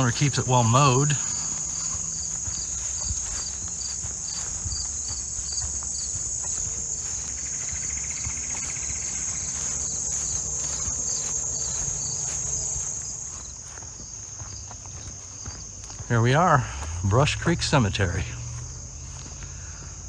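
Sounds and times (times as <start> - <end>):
footsteps: 0.0 - 20.0
high-pitched insect chorus: 0.0 - 20.0
insect chirping: 0.0 - 20.0.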